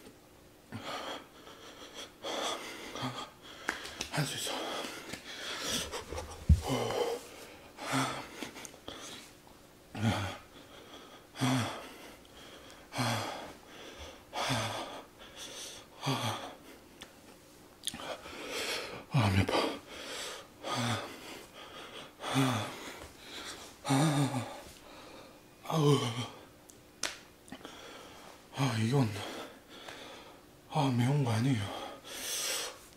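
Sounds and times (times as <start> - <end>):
man breathing hard and gasping: 0.7 - 16.9, 17.9 - 26.5, 27.5 - 28.4, 29.1 - 30.4, 31.6 - 32.9.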